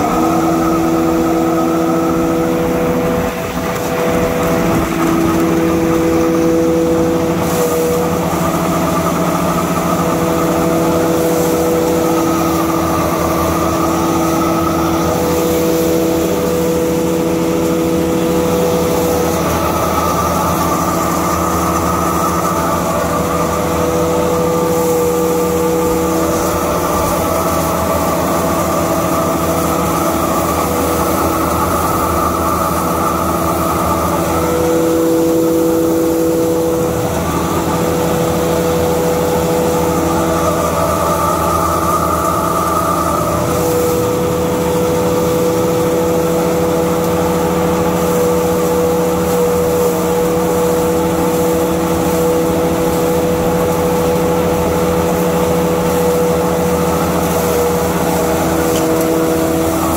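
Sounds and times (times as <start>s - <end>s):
mill machinery humming: 0.0s - 59.9s.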